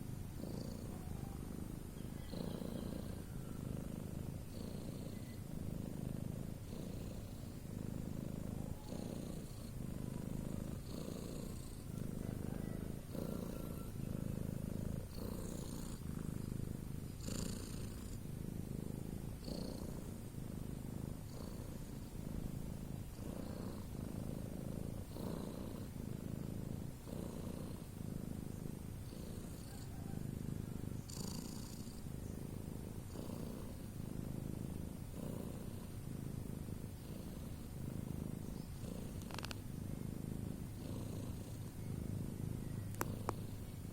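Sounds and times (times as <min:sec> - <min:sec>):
cat snoring: 0:00.0 - 0:43.9.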